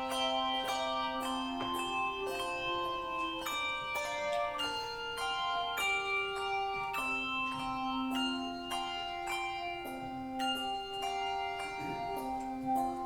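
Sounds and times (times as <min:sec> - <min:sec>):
bell-like struck notes: 0:00.0 - 0:13.0.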